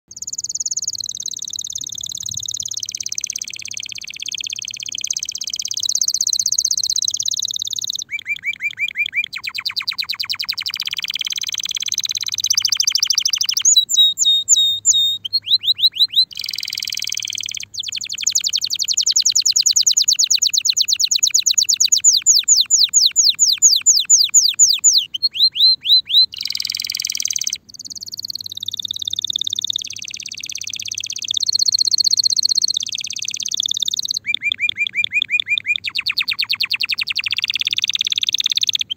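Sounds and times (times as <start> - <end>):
canary singing trills: 0.1 - 38.9.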